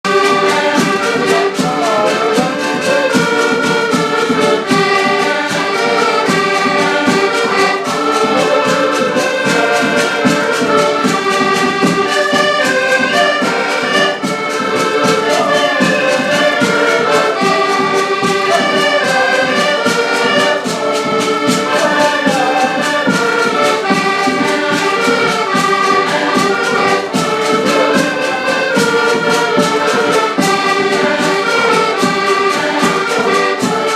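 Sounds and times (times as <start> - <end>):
brass band playing: 0.0 - 33.9
percussive beat: 0.1 - 33.9.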